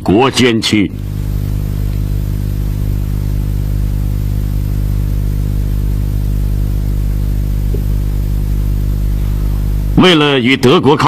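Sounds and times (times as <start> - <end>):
low droning hum: 0.9 - 10.2.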